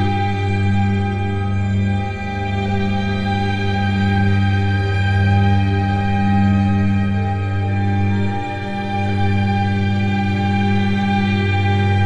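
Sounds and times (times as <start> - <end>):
drone music with held tones: 0.0 - 12.0.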